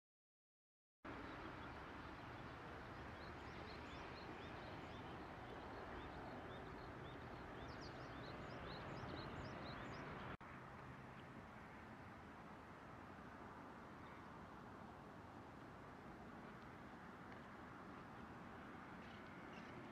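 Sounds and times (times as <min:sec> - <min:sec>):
steady outdoor hiss: 0:01.1 - 0:19.9.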